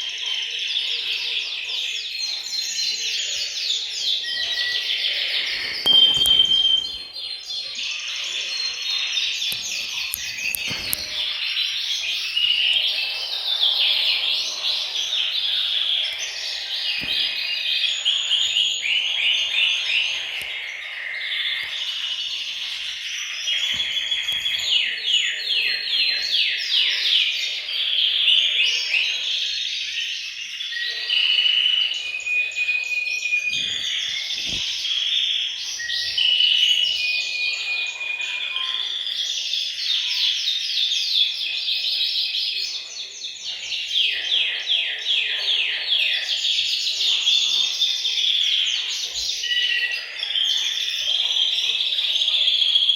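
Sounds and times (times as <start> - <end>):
canaries singing: 0.0 - 52.9.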